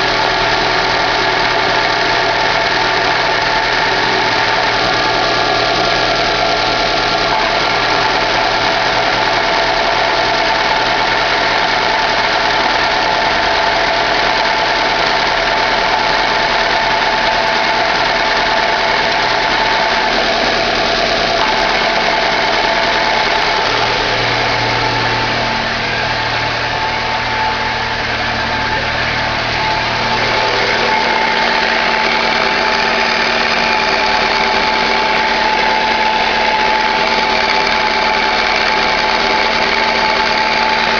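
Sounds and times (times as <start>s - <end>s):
bearing whine from clutch: 0.0s - 40.9s
car engine idling: 0.0s - 40.9s.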